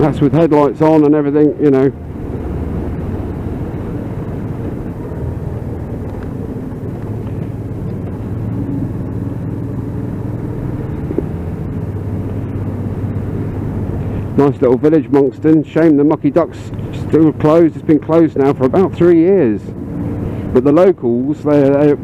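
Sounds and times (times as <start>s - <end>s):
muffled motorcycle engine: 0.0s - 22.0s.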